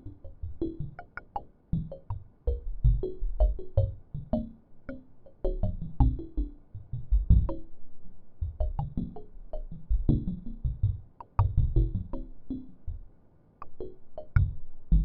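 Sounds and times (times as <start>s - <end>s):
synthesized plucked notes: 0.0s - 7.8s, 8.4s - 13.0s, 13.6s - 15.0s.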